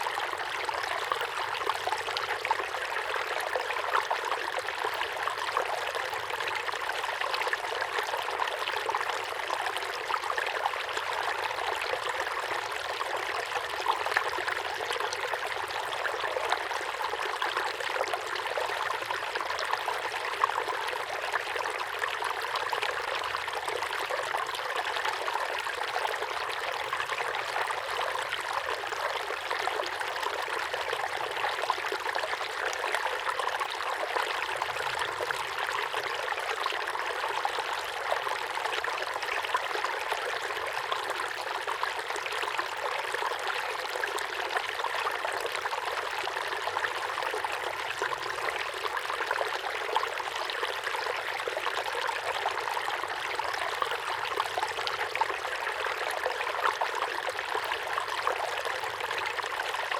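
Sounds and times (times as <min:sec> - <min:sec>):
small waterfall pouring into pond: 0:00.0 - 0:59.9.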